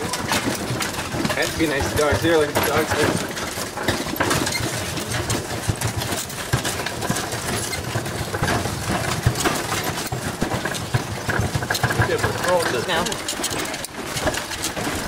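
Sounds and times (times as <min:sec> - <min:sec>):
cart wheels rattling and knocking: 0:00.0 - 0:15.0.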